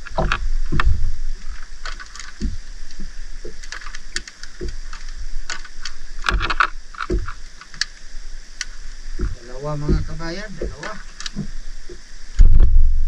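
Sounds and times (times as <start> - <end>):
knocks and rattles on a boat: 0.0 - 7.7, 9.0 - 13.0.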